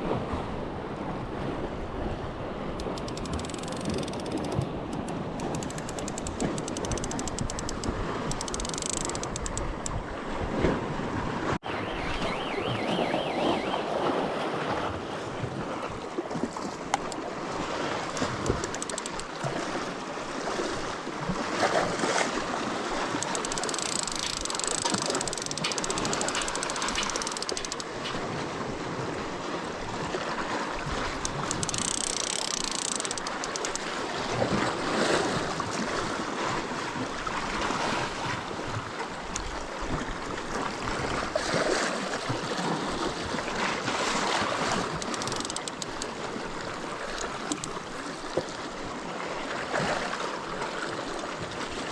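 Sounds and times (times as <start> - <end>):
sea waves washing over rocks: 0.0 - 51.9.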